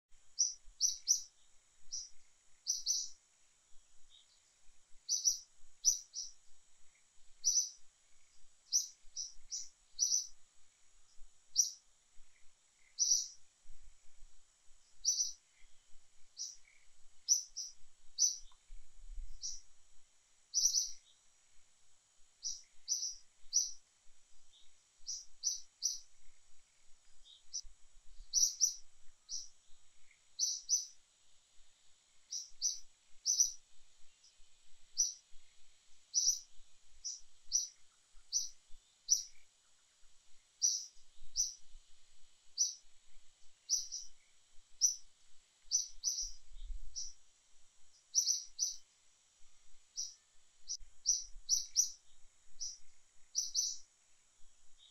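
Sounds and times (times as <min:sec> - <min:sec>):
faint high-pitched hum: 0:00.0 - 0:54.9
bird chirping: 0:00.2 - 0:03.3, 0:03.9 - 0:13.5, 0:14.8 - 0:19.7, 0:20.5 - 0:21.3, 0:22.4 - 0:31.0, 0:32.2 - 0:41.7, 0:42.4 - 0:42.9, 0:43.5 - 0:47.2, 0:47.8 - 0:48.9, 0:49.9 - 0:53.9.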